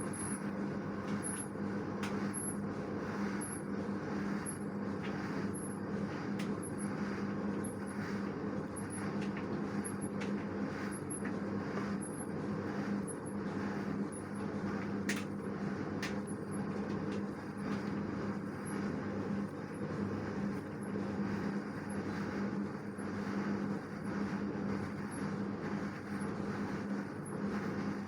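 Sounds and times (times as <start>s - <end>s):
washing machine humming: 0.0s - 28.0s.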